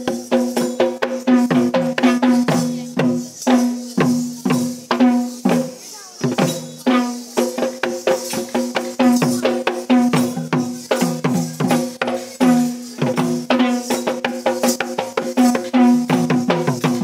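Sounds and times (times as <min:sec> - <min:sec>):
faint high jingling hiss: 0:00.0 - 0:17.0
hand drum playing: 0:00.0 - 0:17.0.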